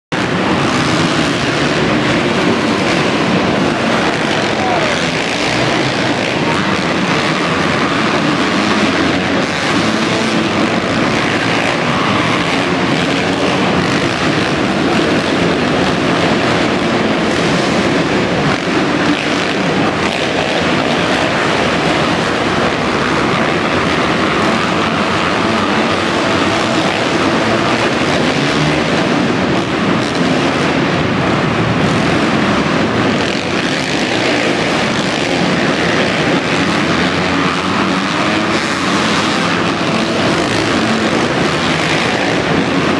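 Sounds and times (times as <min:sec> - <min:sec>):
dirt bike engines racing: 0:00.0 - 0:42.9.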